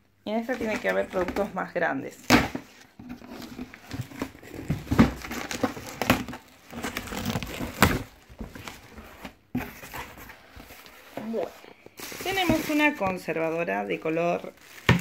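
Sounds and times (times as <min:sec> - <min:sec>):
plastic wrapping crinkling: 0:00.4 - 0:01.7, 0:03.1 - 0:15.0.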